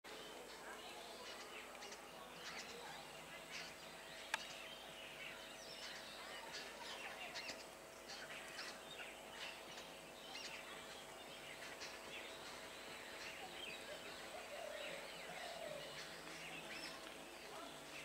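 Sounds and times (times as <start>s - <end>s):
birds chirping: 0.1s - 18.0s.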